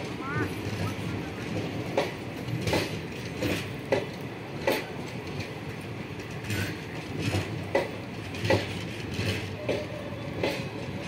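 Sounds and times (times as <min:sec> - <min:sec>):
wheels clacking over rail joints: 0:00.0 - 0:11.0
wheels rumbling on rail: 0:00.0 - 0:11.0.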